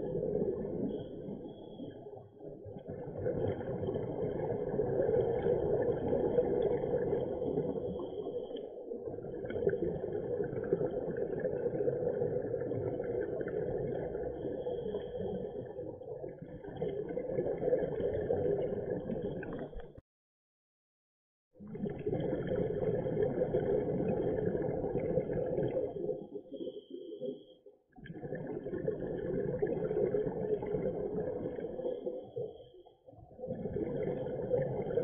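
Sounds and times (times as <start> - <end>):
exhaled bubbles: 0.0 - 20.0, 21.6 - 35.0.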